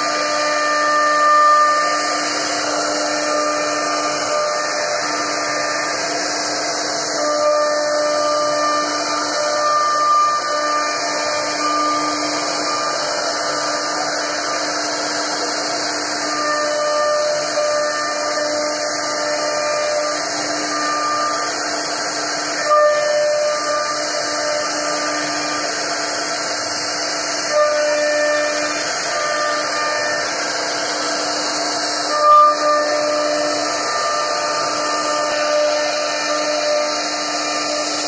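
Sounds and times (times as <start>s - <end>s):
router spindle whining: 0.0s - 38.0s
wood cutting hiss: 0.0s - 38.0s.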